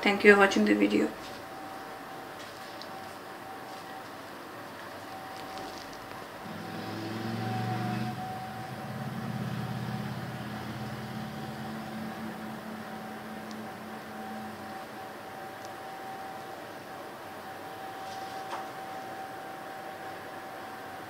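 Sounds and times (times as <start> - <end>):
faint high whine: 0.0 - 21.0
machine humming: 0.0 - 21.0.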